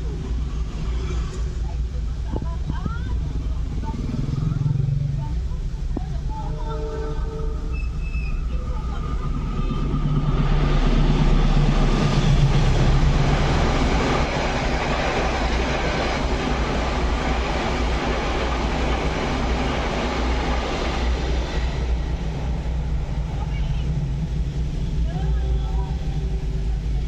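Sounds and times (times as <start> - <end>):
train cars rumbling on rails: 0.0 - 27.0
train engine low tone: 0.0 - 27.0.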